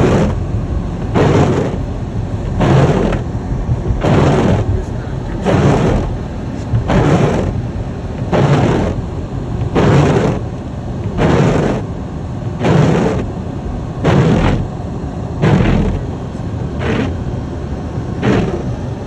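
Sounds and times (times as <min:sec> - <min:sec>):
car driving rumble: 0:00.0 - 0:19.0
windshield wipers sweeping snow: 0:00.0 - 0:19.0.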